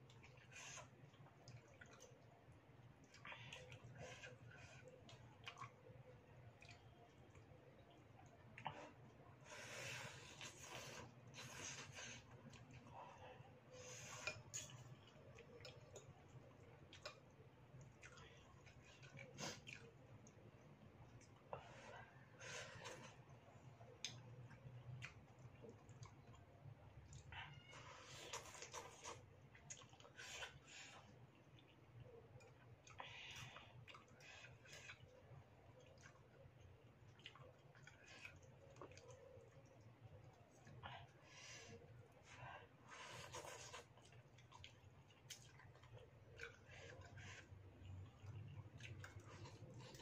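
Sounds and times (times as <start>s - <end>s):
noodles slurped and chewed: 0.0s - 50.0s.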